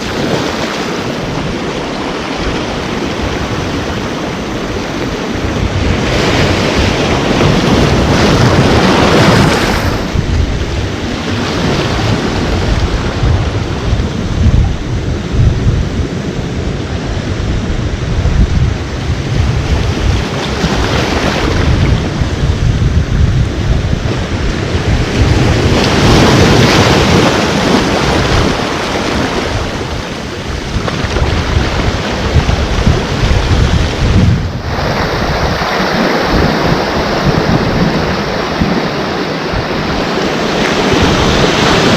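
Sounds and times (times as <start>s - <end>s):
ocean surf breaking: 0.0s - 41.9s
wind buffeting microphone: 0.0s - 41.9s.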